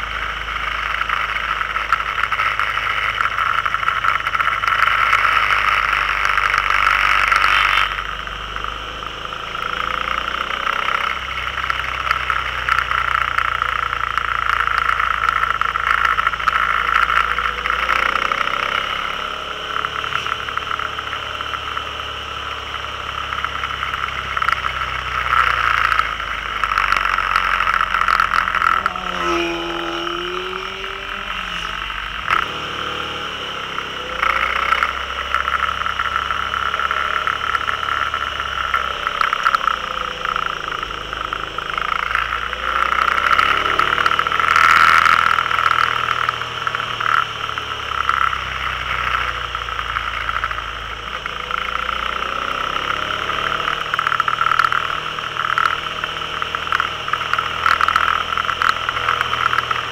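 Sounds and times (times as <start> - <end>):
engine running: 0.0 - 59.9
wind and road noise: 0.0 - 59.9.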